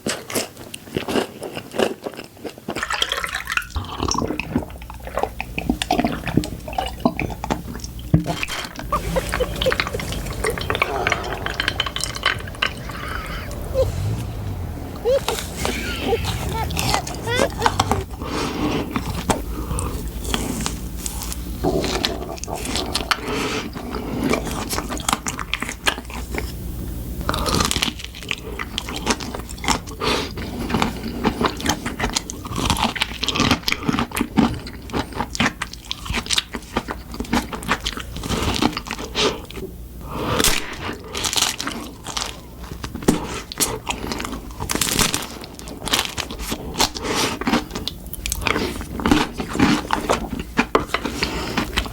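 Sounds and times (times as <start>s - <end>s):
crunchy food being chewed: 0.0s - 14.5s, 16.4s - 51.9s.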